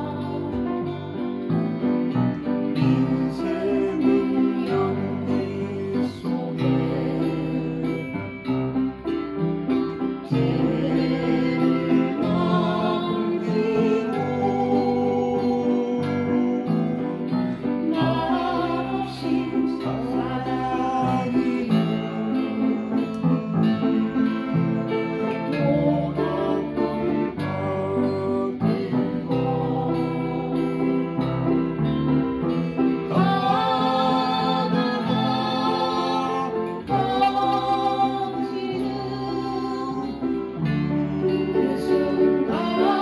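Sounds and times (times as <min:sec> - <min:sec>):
upright piano melody: 0:00.0 - 0:43.0.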